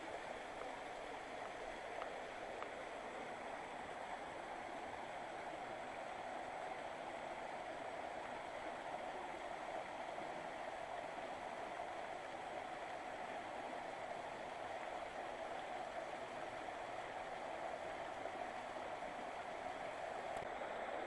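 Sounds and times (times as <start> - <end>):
river flowing over rocks: 0.0 - 21.0.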